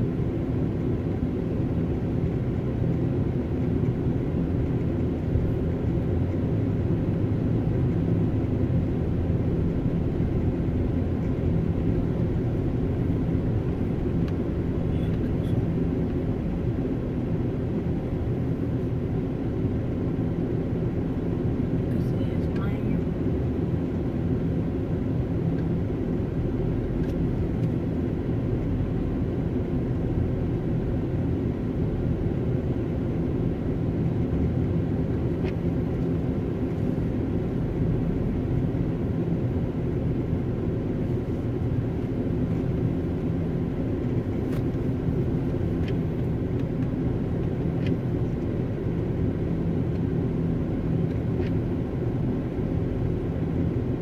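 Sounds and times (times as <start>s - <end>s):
car engine rumble: 0.0s - 54.0s
road noise: 0.0s - 54.0s.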